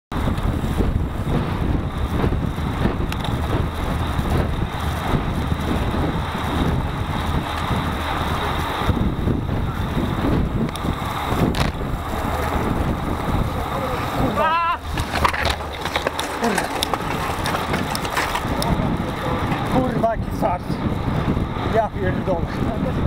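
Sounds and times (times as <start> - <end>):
road rumble: 0.1 - 23.0
wind rushing over microphone: 0.1 - 23.0.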